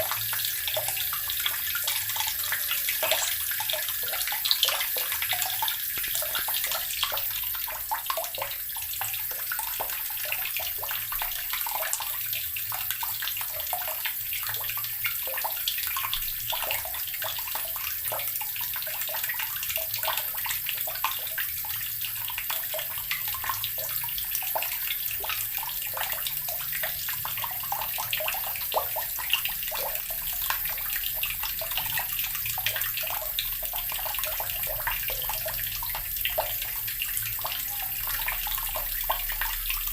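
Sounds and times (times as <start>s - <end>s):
tap water pouring into barrel: 0.0s - 39.9s.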